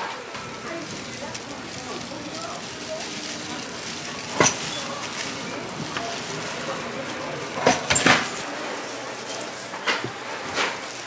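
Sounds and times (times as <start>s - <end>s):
busy kitchen background noise: 0.0s - 11.0s.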